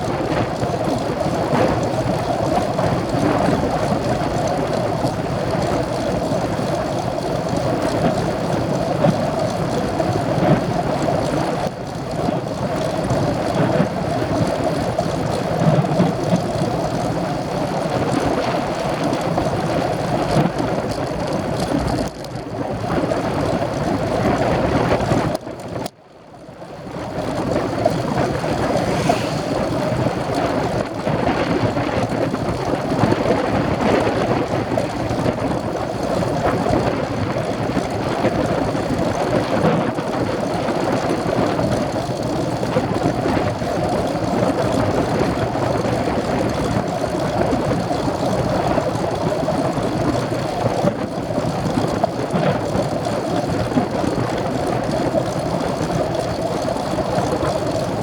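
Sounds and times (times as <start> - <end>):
wind rushing over microphone: 0.0 - 25.9, 26.6 - 58.0.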